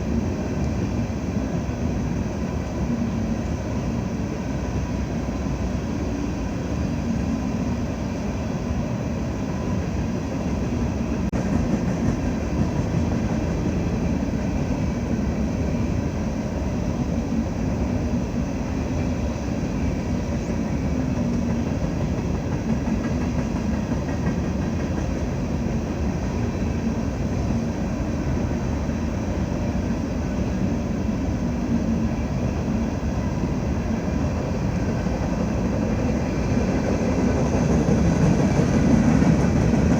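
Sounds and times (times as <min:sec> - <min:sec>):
freight train running by: 0:00.0 - 0:39.9.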